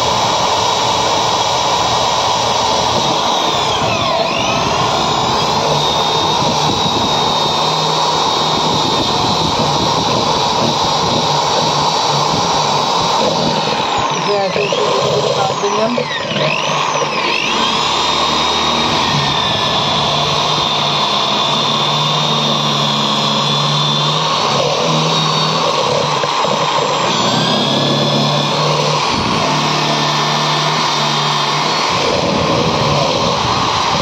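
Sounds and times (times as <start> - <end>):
power tool motor running: 0.0 - 34.0.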